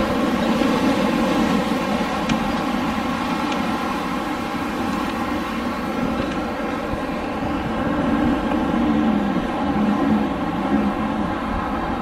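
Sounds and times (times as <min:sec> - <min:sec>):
wind blowing: 0:00.0 - 0:12.0.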